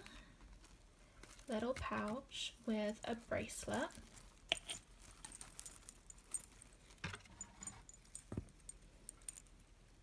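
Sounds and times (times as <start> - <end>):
metal charms clinking: 1.1 - 10.0.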